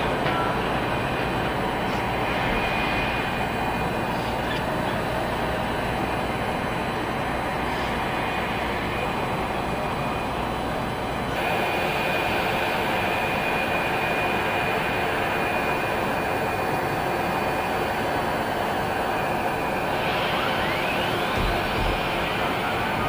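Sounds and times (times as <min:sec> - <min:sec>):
jet turbine whine: 0:00.0 - 0:23.0.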